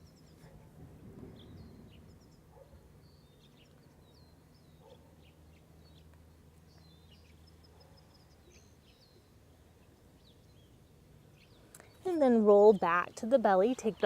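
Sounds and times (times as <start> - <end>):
low steady hum: 0.0 - 14.0
songbirds chirping and whistling: 0.0 - 14.0.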